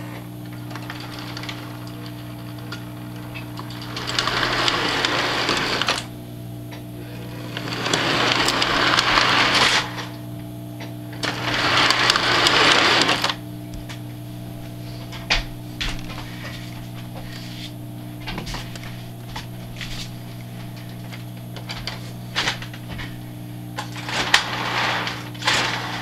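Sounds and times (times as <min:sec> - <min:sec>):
model train electric hum: 0:00.0 - 0:26.0.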